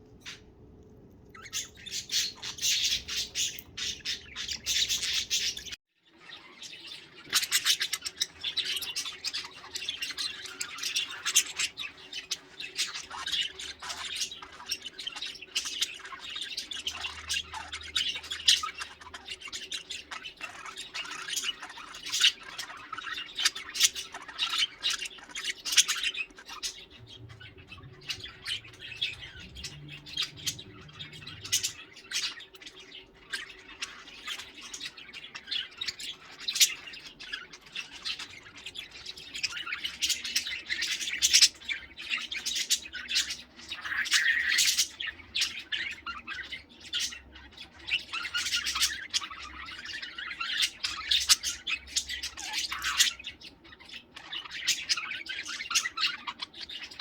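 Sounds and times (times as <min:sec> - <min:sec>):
budgerigars chattering and warbling: 0:00.2 - 0:00.5, 0:01.3 - 0:57.0.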